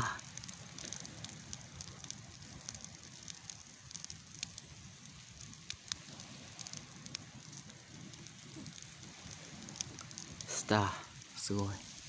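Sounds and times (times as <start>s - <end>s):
campfire crackling and popping: 0.0s - 12.0s
low fire rumble: 0.0s - 12.0s.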